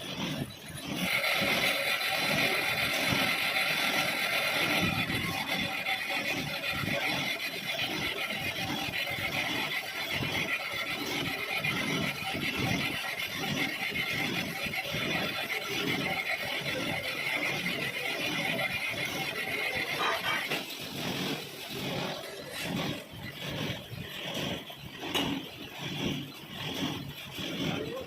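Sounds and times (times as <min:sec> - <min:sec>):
lathe cutting tool squealing: 0:00.0 - 0:28.0
lathe machine rumble: 0:00.0 - 0:28.0.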